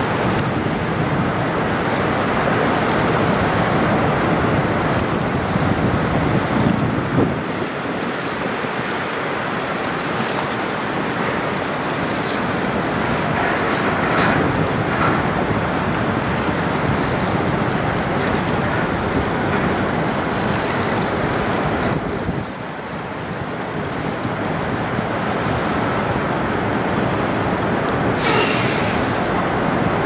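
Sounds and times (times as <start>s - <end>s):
lake waves washing: 0.0s - 30.0s
wind on microphone: 0.0s - 30.0s.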